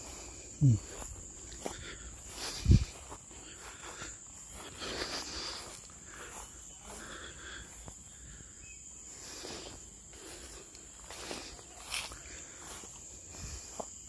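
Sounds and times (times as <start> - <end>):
footsteps through vegetation: 0.0 - 14.0
insects droning: 0.0 - 14.0
vegetation rustling: 0.0 - 14.0.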